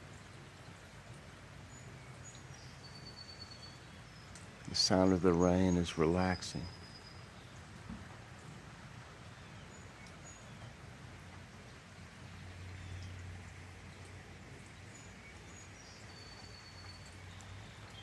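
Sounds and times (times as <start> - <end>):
rain falling: 0.0 - 18.0
small birds chirping: 0.0 - 18.0.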